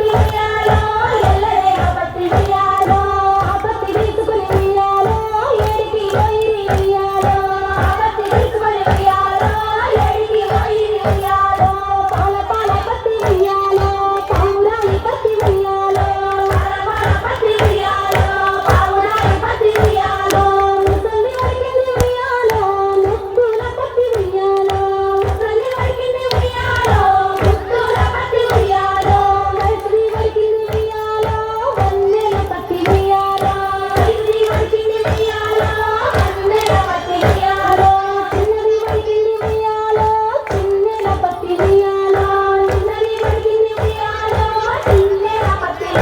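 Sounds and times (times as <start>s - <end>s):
steady rhythmic beat: 0.0s - 46.0s
women singing folk song: 0.0s - 46.0s.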